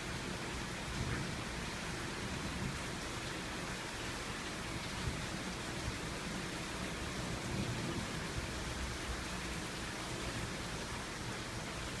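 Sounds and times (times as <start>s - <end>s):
rain falling steadily: 0.0s - 12.0s.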